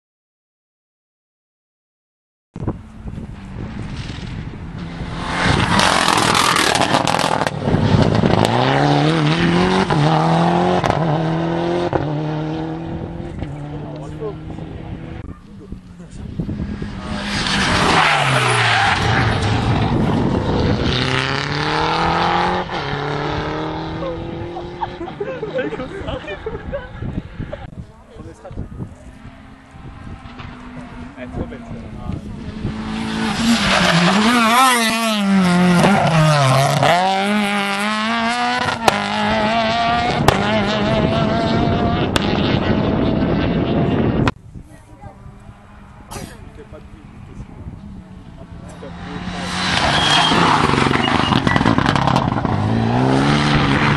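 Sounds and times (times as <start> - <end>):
rally car engine revving: 3.2 - 27.8, 28.4 - 44.4, 45.3 - 53.9.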